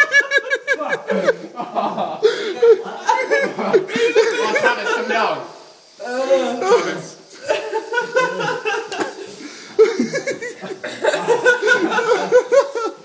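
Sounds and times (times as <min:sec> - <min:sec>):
people laughing hard: 0:00.0 - 0:05.4, 0:07.3 - 0:13.0.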